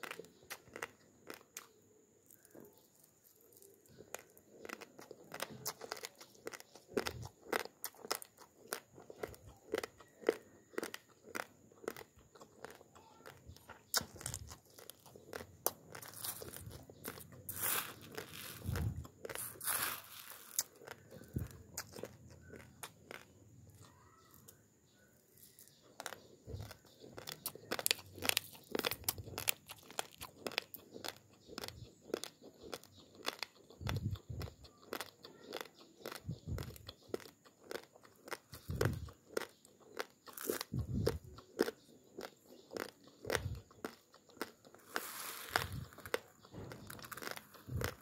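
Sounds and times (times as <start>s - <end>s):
chewing crunchy rice grains: 0.0s - 48.0s.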